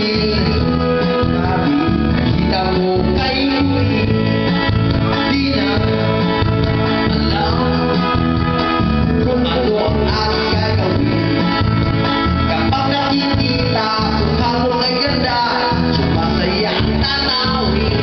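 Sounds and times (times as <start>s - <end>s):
guitar-led backing music: 0.0s - 18.0s
man singing into a microphone: 0.0s - 18.0s.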